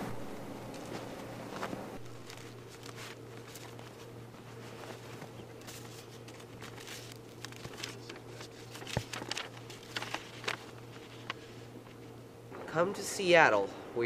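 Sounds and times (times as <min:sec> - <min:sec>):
steady low hum: 0:00.0 - 0:14.0
paper rustling and crackling: 0:00.8 - 0:12.2.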